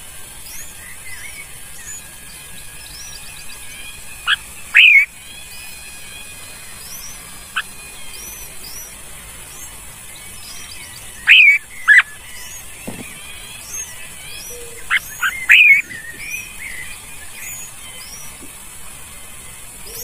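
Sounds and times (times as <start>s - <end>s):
faint high bird chirps: 0.0s - 20.0s
rising bird calls: 0.0s - 20.0s.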